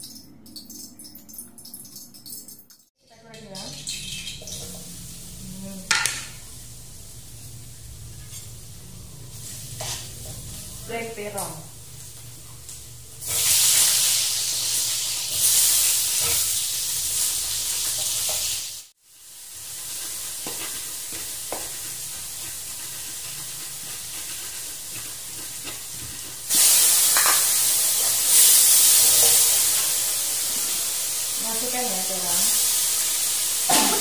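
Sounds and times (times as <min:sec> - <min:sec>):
vegetables sizzling in hot oil: 0:03.5 - 0:34.0.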